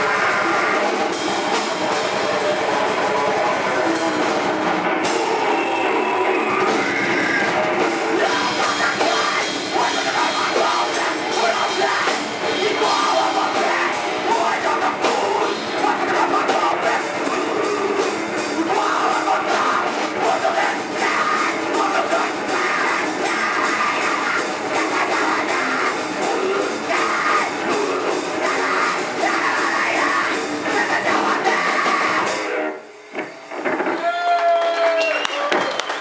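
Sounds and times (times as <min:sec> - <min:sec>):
fast drum kit: 0:00.0 - 0:32.7
distorted electric guitar: 0:00.0 - 0:34.9.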